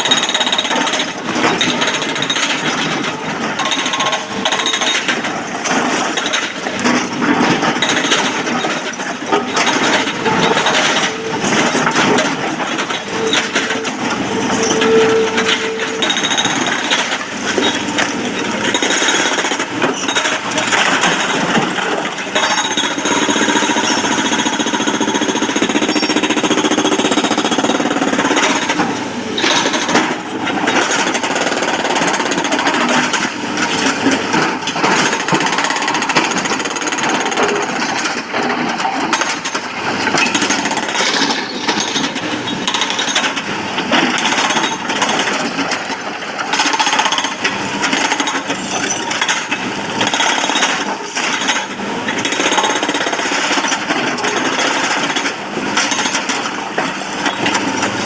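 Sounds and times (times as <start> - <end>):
hydraulic rock breaker hammering stone: 0.0 - 58.0.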